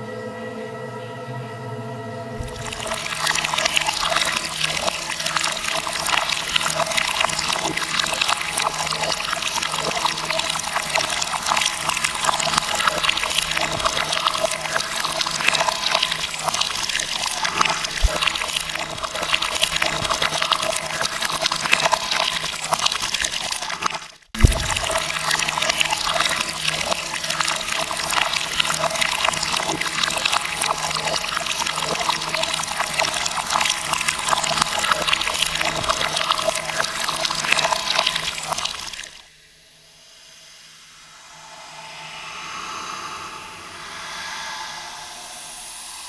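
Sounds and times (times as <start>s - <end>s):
running water: 2.4s - 39.3s.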